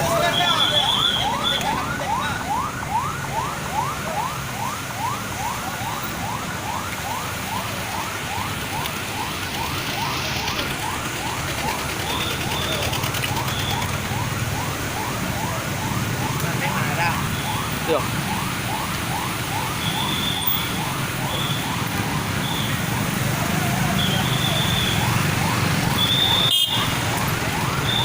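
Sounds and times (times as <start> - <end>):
low rumble of engines: 0.0 - 28.0
siren yelping: 0.0 - 28.0.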